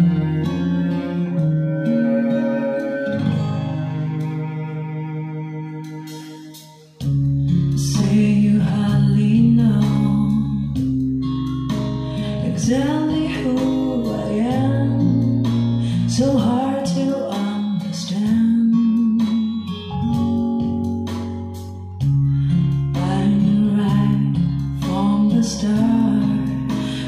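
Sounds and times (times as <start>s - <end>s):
song with guitar and singing: 0.0s - 4.7s, 6.6s - 27.0s.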